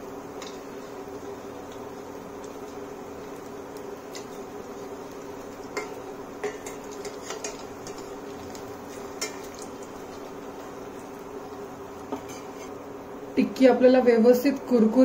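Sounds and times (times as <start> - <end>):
oil sizzling: 0.0 - 15.0.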